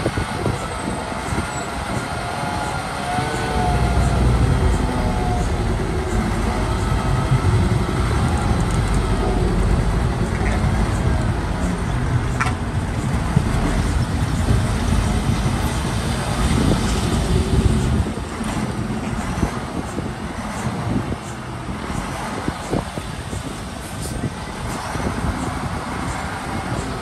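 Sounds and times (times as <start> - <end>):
heavy diesel machinery running: 0.0 - 27.0.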